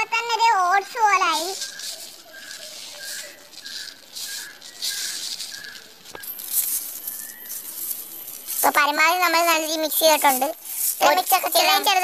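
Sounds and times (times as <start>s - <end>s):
dry flakes crackly rustling: 0.0s - 12.0s.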